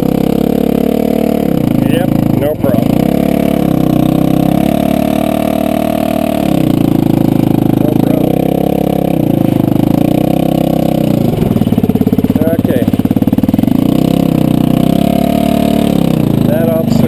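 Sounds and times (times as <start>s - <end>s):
side-by-side engine revving: 0.0s - 17.0s.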